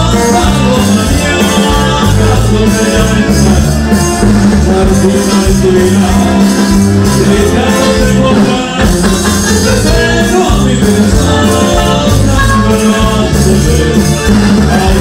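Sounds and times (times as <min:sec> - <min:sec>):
latin dance music: 0:00.0 - 0:15.0.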